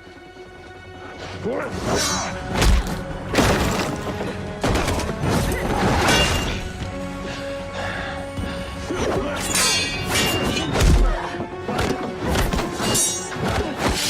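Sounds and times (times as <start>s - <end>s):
dramatic score music: 0.0s - 14.0s.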